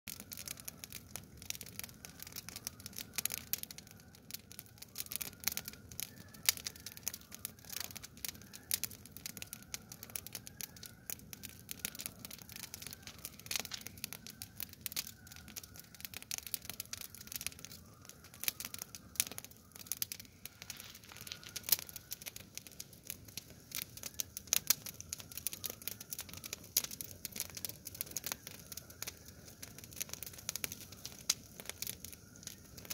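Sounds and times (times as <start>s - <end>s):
fire of twigs crackling: 0.1s - 32.9s.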